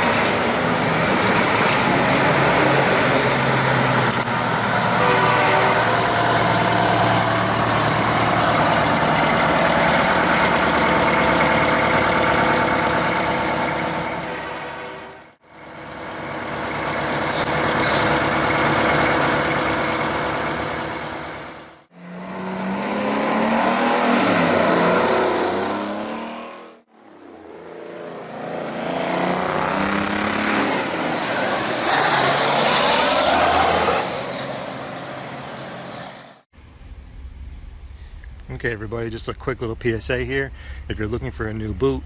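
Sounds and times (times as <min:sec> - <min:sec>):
truck engine revving: 0:00.0 - 0:36.4.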